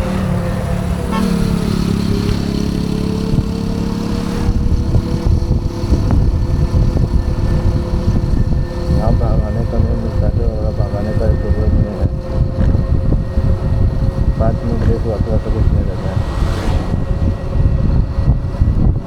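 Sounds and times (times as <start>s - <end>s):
thin electric scooter whine: 0.0s - 19.0s
wind buffeting microphone: 0.0s - 19.0s.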